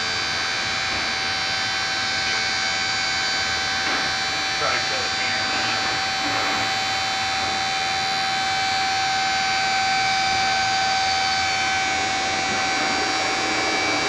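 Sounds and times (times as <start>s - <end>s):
drill rig motor whining: 0.0s - 14.0s.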